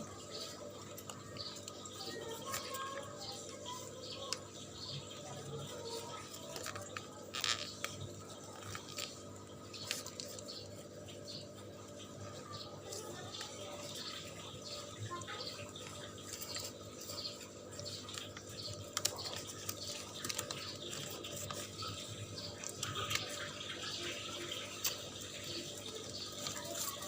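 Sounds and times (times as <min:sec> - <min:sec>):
packaging clicks and crinkles: 0:00.1 - 0:11.0, 0:12.8 - 0:27.0.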